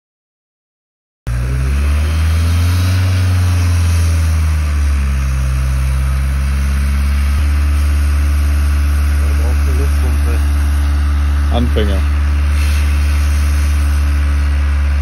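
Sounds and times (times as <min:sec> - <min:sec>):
vehicle engine running: 0:01.3 - 0:15.0.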